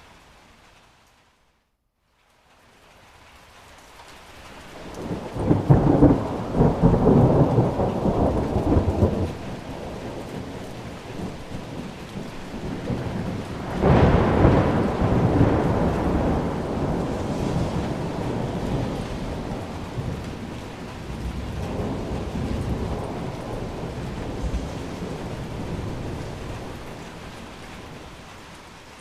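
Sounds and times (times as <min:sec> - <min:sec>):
rain falling steadily: 0:00.0 - 0:29.0
thunder rumbling: 0:04.8 - 0:29.0.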